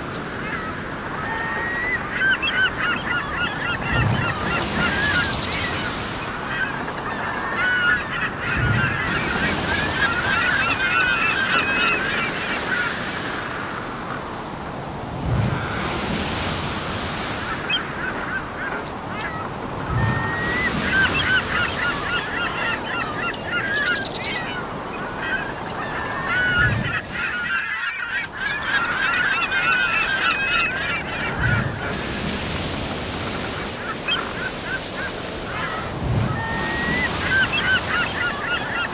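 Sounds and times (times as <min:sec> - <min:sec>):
many birds calling: 0:00.0 - 0:38.9.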